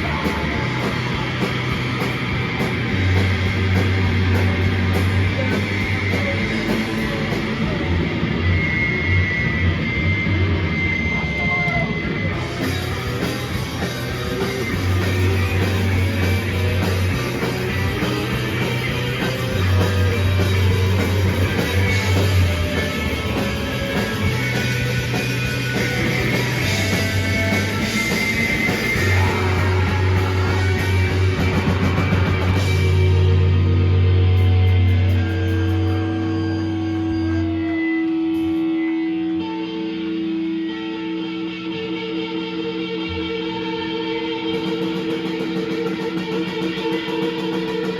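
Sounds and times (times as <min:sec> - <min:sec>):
bass guitar low notes: 0:00.0 - 0:40.4
rock band playing loud: 0:00.0 - 0:47.9.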